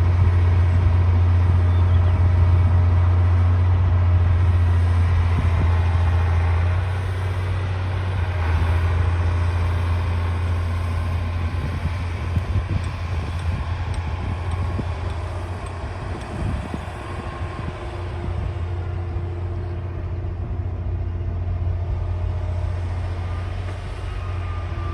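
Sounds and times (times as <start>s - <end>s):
bulldozer diesel engine droning: 0.0s - 24.9s.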